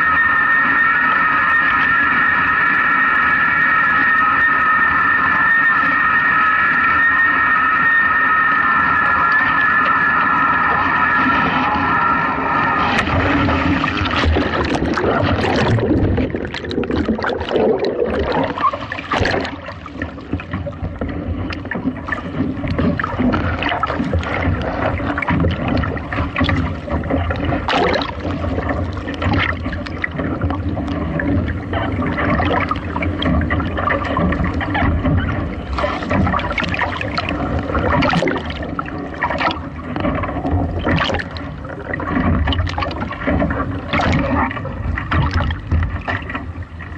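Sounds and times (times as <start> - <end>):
water splashing around hull: 0.0 - 46.9.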